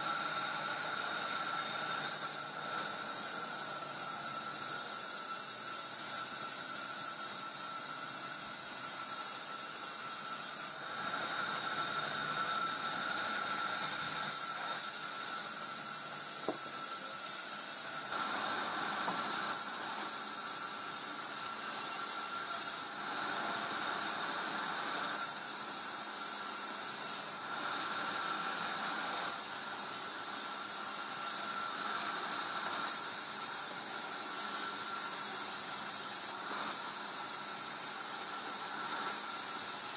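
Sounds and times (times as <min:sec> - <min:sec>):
saw cutting log: 0:00.0 - 0:39.9.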